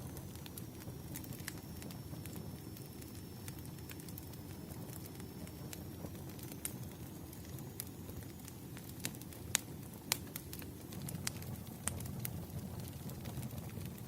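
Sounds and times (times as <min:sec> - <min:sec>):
fire popping: 0:00.0 - 0:14.0
wood fire crackling: 0:00.0 - 0:14.0.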